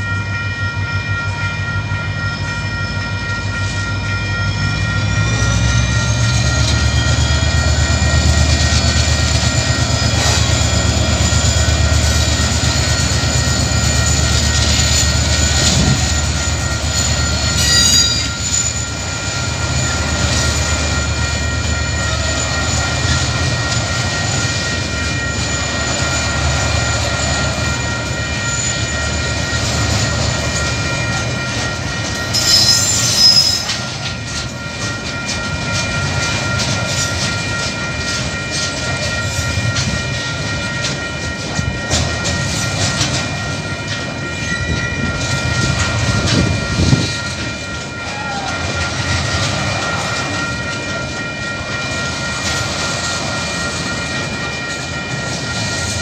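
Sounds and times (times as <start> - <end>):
crossing warning bells: 0.0 - 56.0
diesel locomotives rumbling past: 0.0 - 56.0
locomotive whine: 0.0 - 56.0.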